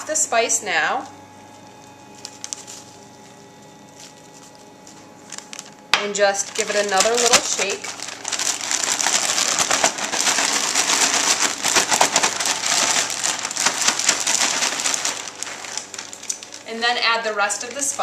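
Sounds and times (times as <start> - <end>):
bread cubes pattering in bag: 1.5 - 18.0
plastic bag crinkling: 1.5 - 18.0.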